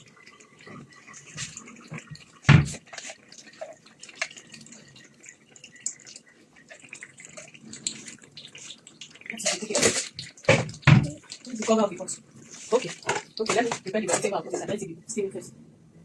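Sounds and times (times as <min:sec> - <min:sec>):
porridge bubbling in a pot: 0:00.0 - 0:14.8.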